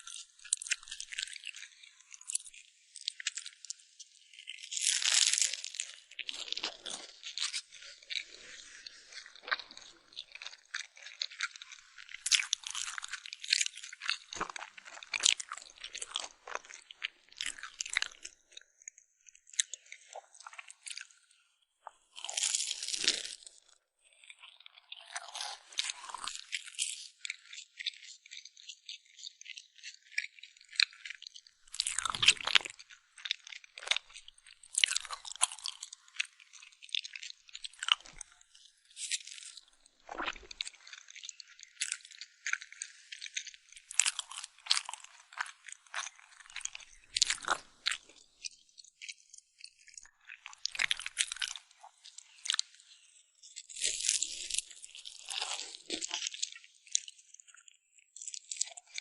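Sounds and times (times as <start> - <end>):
crunching and chewing cake: 0.0 - 59.0.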